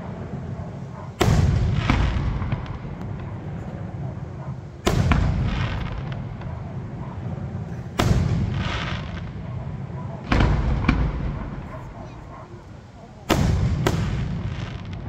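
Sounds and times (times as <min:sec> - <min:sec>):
firework booms: 0:00.0 - 0:15.0
firework crack: 0:00.0 - 0:15.0
low rolling echo: 0:00.0 - 0:15.0.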